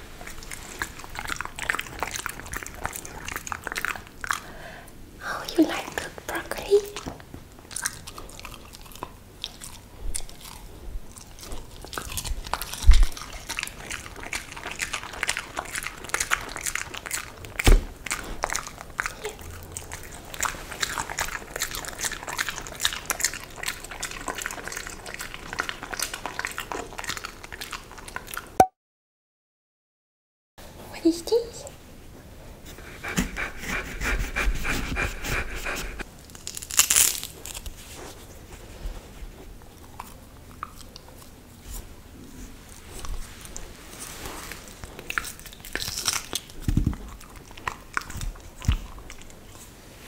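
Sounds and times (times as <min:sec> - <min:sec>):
dog crunching vegetables: 0:00.0 - 0:04.6, 0:05.6 - 0:28.6, 0:32.7 - 0:49.8.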